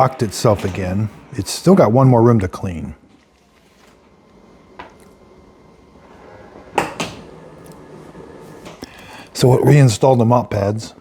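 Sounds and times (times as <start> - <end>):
faint motor hum: 0.0 - 11.0.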